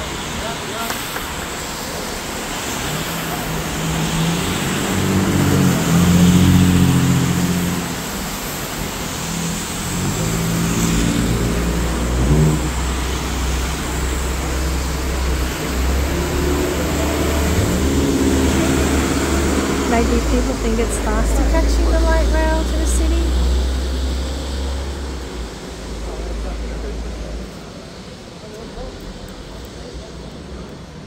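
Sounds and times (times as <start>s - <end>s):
heavy vehicle engine pulling away: 0.0s - 31.0s.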